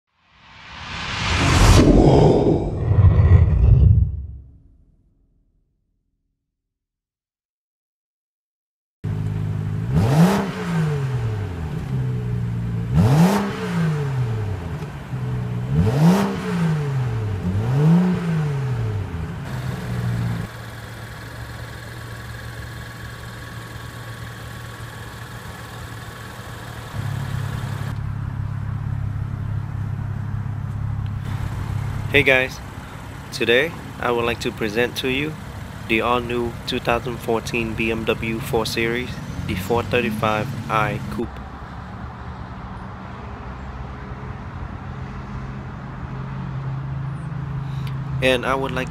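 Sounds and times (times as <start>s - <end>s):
car engine idling and revving: 9.0s - 48.9s.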